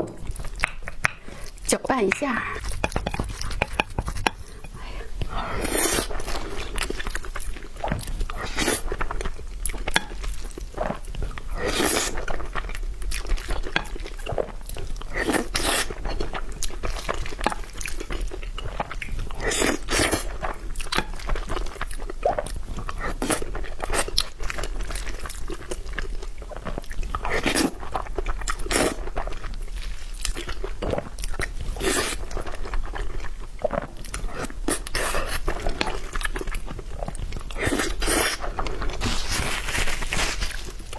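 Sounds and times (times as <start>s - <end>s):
person chewing and crunching food: 0.0s - 40.9s.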